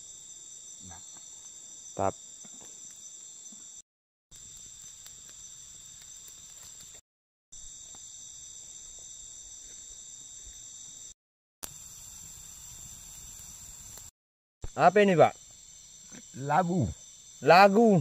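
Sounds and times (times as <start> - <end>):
insect chorus: 0.0 - 7.0, 7.6 - 18.0.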